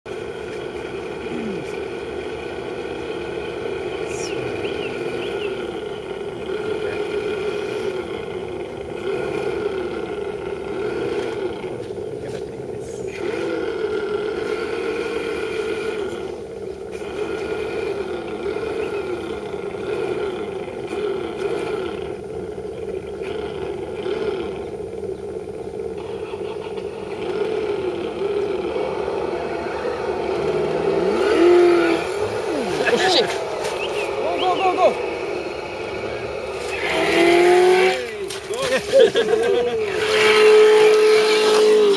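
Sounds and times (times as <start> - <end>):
rc truck motors whining: 0.1 - 41.9.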